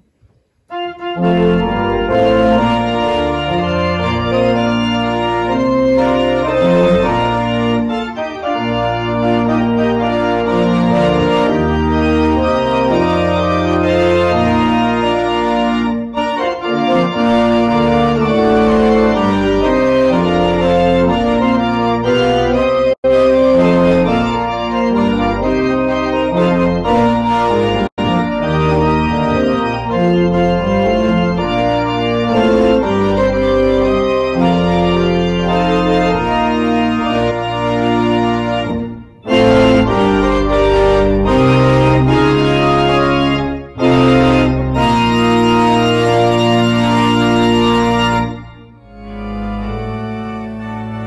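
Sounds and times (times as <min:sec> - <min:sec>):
church organ chords: 0:00.0 - 0:51.0.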